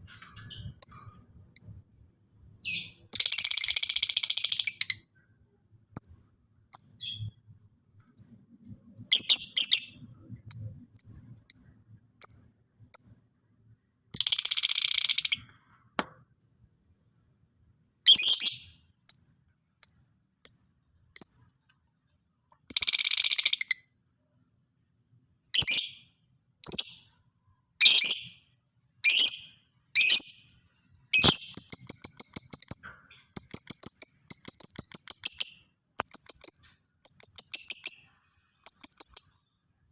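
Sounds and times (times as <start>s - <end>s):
bird chirping: 0.0s - 5.2s, 5.8s - 13.3s, 14.1s - 15.5s, 18.1s - 21.7s, 22.6s - 24.0s, 25.5s - 39.9s.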